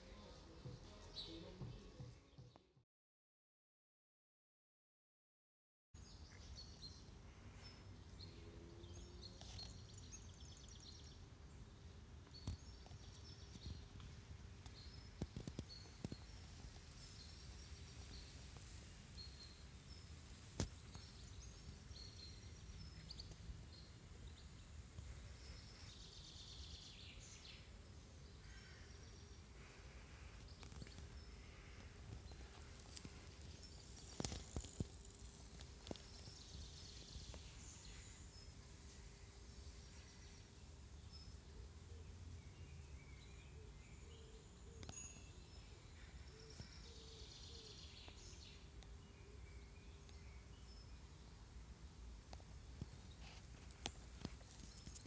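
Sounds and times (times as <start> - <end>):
birdsong: 0.0 - 2.8, 6.0 - 55.0.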